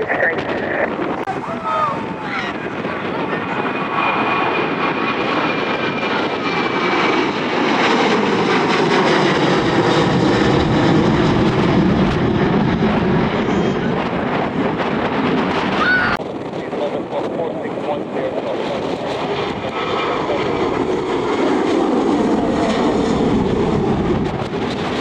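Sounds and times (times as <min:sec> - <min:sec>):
airliner engine noise: 0:00.0 - 0:25.0
jet engine whine: 0:00.0 - 0:25.0.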